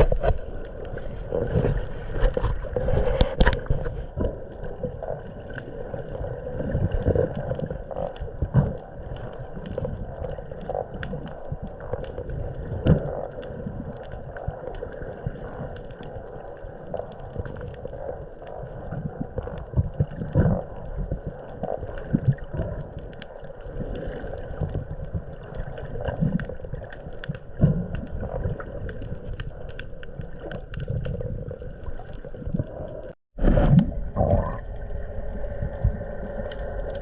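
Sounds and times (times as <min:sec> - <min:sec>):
muffled underwater rumble: 0:00.0 - 0:37.0
underwater bubbling: 0:00.0 - 0:37.0.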